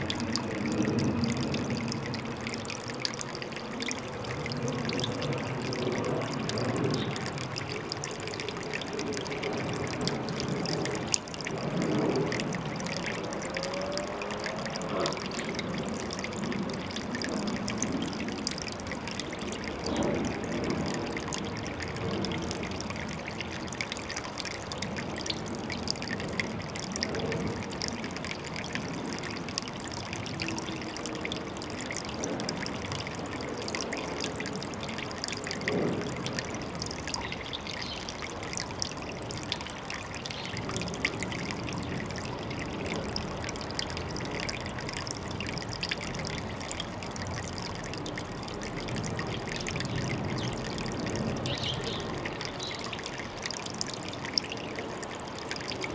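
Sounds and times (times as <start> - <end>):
water trickling into a pond: 0.0 - 55.9.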